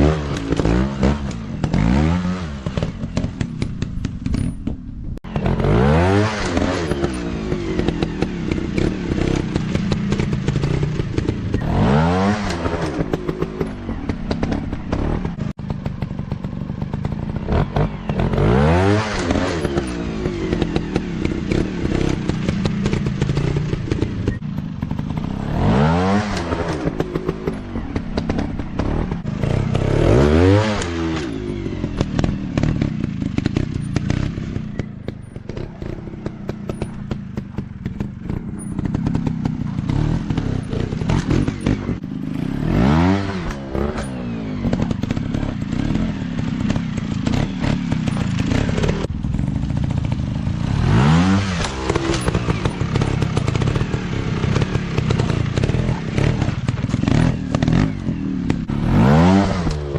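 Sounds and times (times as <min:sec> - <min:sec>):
dirt bike engines revving: 0:00.0 - 0:04.6, 0:05.2 - 0:59.9.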